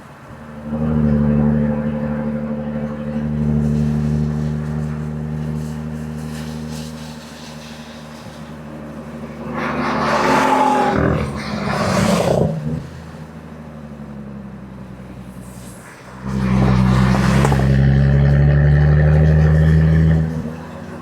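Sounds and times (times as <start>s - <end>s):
car exhaust at full throttle: 0.0s - 21.0s.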